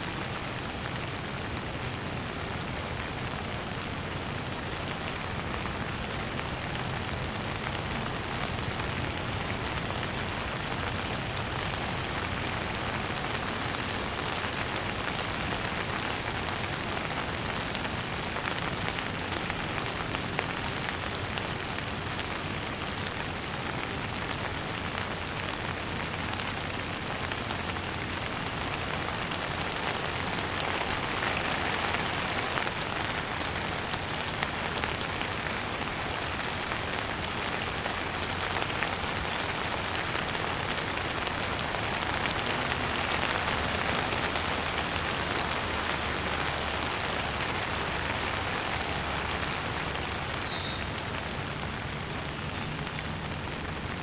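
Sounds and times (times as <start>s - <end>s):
gentle rain pattering: 0.0s - 54.0s.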